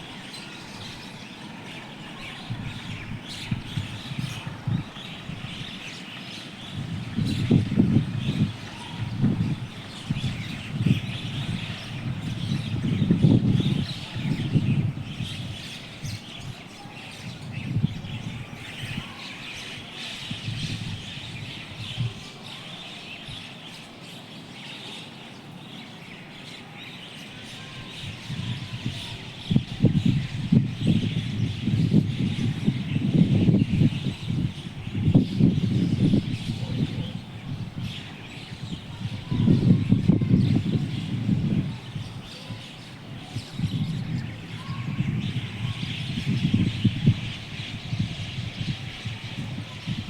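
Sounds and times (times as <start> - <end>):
flock of birds chirping: 0.0 - 50.0.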